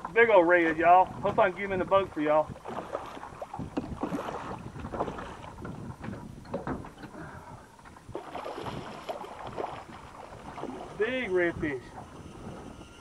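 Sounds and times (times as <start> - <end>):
water slapping boat hull: 0.0 - 13.0
wind buffeting microphone: 0.0 - 13.0.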